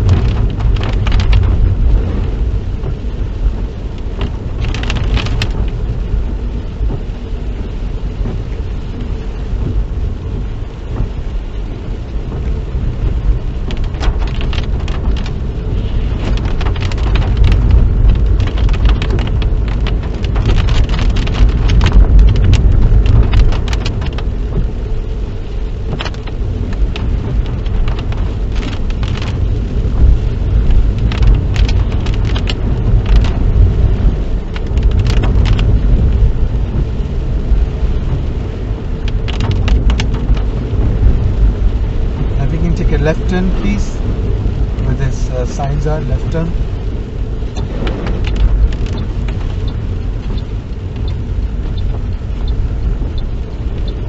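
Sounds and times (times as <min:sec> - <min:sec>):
car road and engine rumble: 0:00.0 - 0:54.0
rain and tyre spray spatter: 0:00.0 - 0:54.0.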